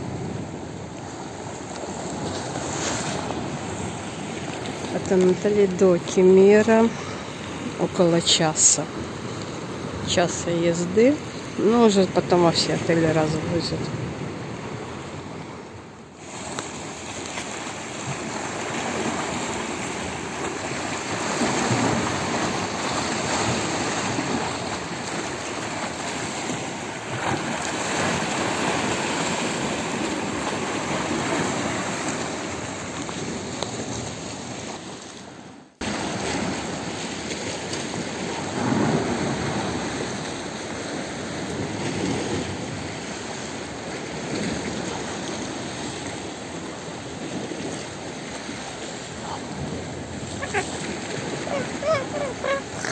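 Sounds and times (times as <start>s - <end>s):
waves splashing against rocks: 0.0s - 15.3s, 16.2s - 52.9s.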